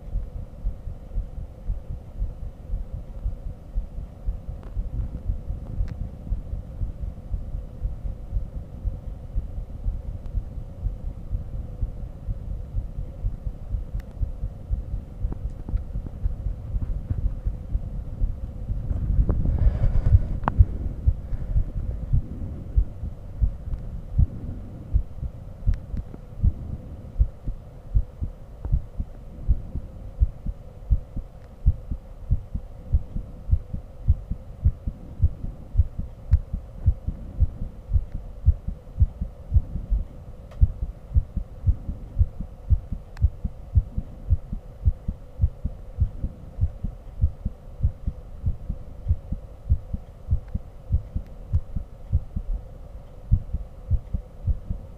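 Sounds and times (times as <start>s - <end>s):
faint hum: 0.0s - 54.9s
heartbeat thumps: 0.0s - 54.9s
low rumble: 0.0s - 54.9s.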